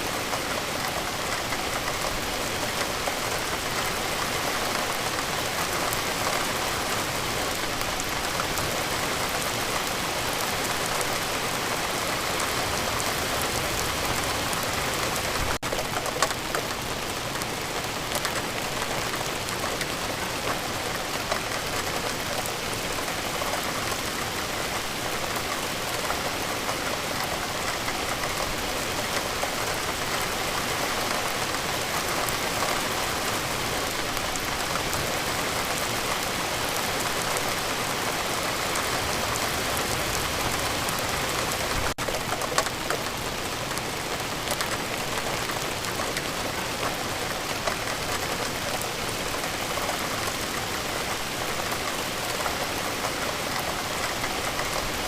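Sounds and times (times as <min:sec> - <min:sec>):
rain hissing on surfaces: 0:00.0 - 0:55.0.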